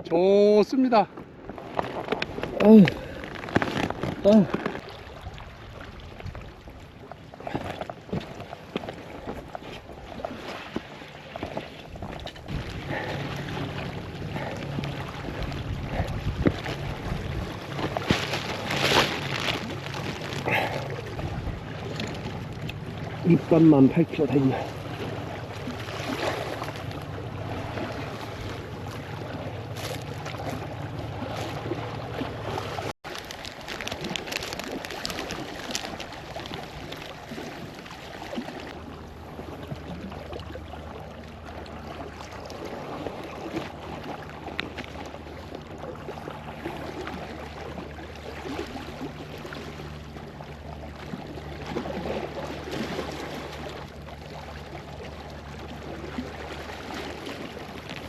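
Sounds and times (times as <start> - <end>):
water lapping against boat hull: 0.0 - 58.0.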